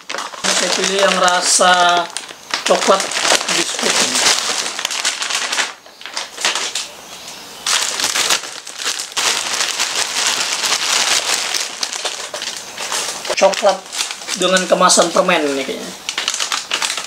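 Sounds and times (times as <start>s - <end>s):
wrapped sweets pouring onto pile: 0.0s - 6.9s, 7.6s - 17.0s
plastic packaging crinkling: 0.0s - 7.0s, 7.6s - 17.0s.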